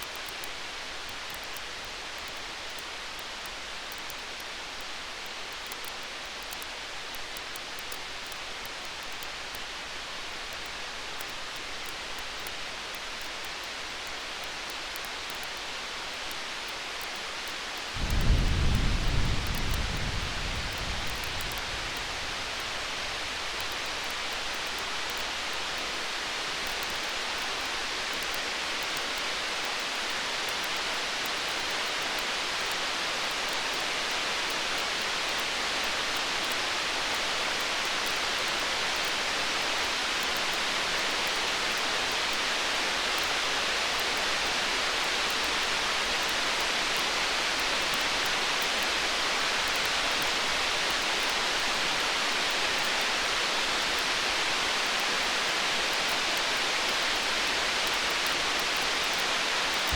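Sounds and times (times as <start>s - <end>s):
faint crackling ticks: 0.0s - 59.9s
steady rushing hiss: 0.0s - 59.9s.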